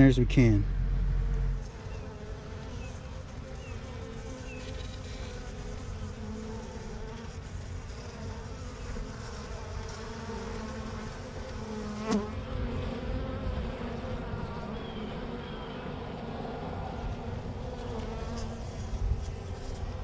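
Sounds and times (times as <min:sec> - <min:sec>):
honey bees buzzing: 0:00.0 - 0:20.0.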